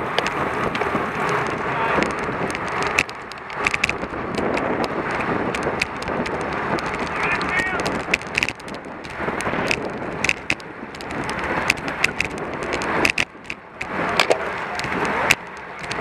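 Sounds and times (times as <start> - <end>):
air and tyres rushing: 0.0 - 16.0
bicycle clicks and rattles: 0.0 - 16.0.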